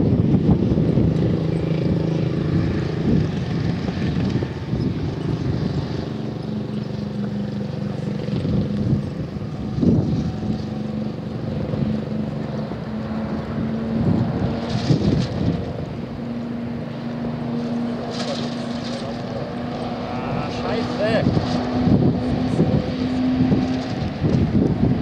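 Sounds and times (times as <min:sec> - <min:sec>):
low engine drone: 0:00.0 - 0:25.0
wind buffeting microphone: 0:00.0 - 0:25.0.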